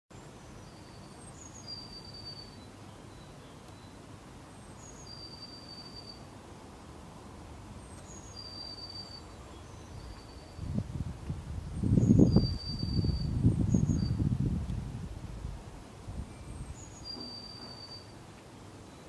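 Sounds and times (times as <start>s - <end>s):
songbird singing: 0.1s - 6.4s, 7.6s - 15.4s, 16.1s - 19.0s.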